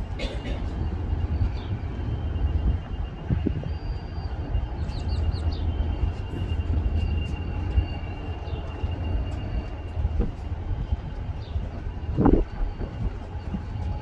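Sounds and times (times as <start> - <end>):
trains rumbling: 0.0 - 14.0.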